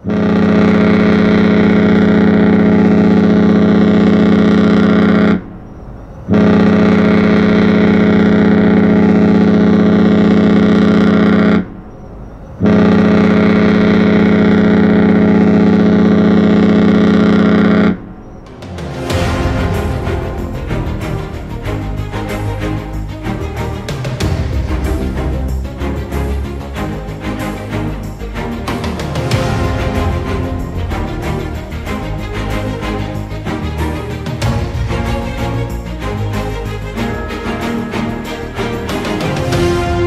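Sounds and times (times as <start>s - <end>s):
ship's horn blasts: 0.0s - 40.0s.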